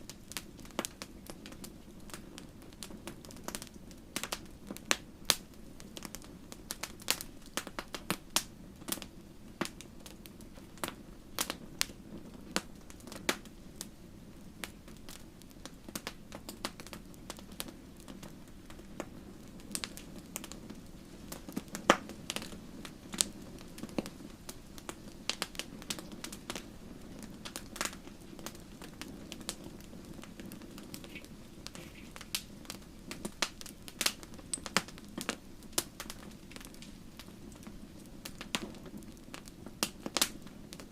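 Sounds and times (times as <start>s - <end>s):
flames rushing: 0.0s - 40.9s
wood fire crackling: 0.0s - 40.9s.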